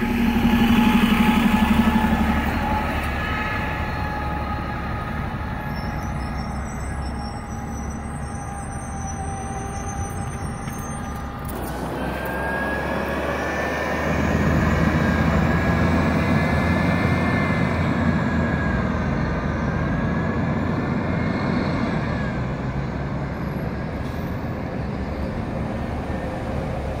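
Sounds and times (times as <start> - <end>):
bus pulling away: 0.0 - 27.0.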